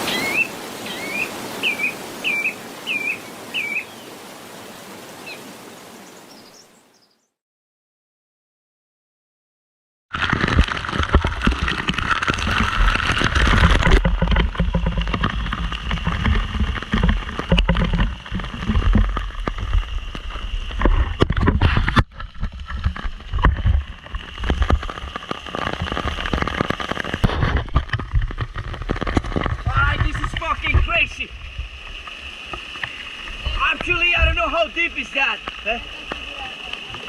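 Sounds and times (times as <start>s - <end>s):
waterfall rushing into pool: 0.0s - 6.7s, 10.2s - 37.0s.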